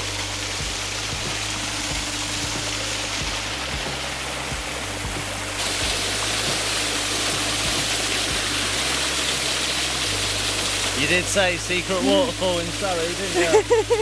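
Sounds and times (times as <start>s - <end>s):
soft background music: 0.0s - 14.0s
waterfall rushing water: 0.0s - 14.0s.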